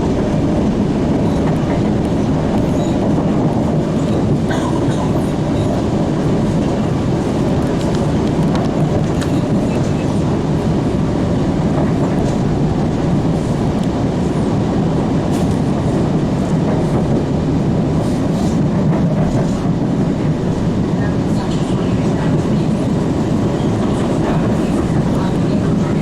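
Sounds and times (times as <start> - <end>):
subway wheels rumbling on rail: 0.0 - 26.0.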